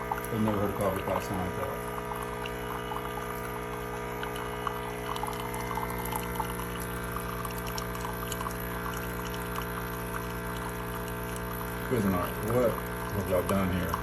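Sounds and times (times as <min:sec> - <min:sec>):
pump motor buzzing drone: 0:00.0 - 0:14.0
water pouring: 0:00.0 - 0:14.0.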